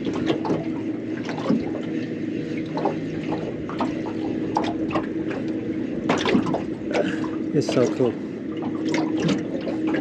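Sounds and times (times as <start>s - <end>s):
water splashing and dripping: 0.0s - 8.0s, 8.6s - 10.0s
low background hum: 0.0s - 10.0s.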